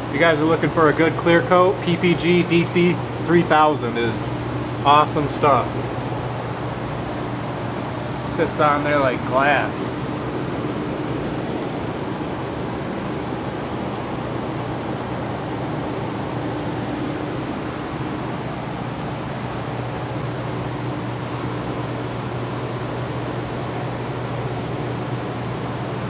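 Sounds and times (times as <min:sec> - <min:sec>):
exhaust fan running: 0:00.0 - 0:26.0.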